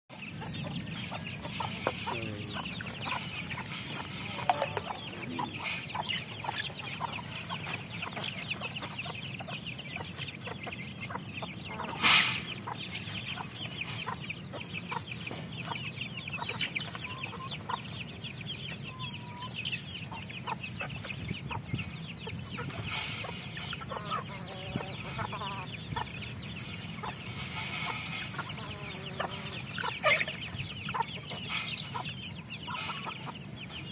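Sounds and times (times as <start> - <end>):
chickens clucking and cheeping: 0.1 - 33.9.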